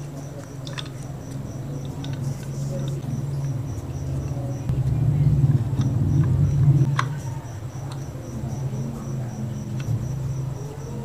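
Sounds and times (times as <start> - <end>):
insect chirping in pulses: 0.0 - 11.0
low steady hum: 0.0 - 11.0.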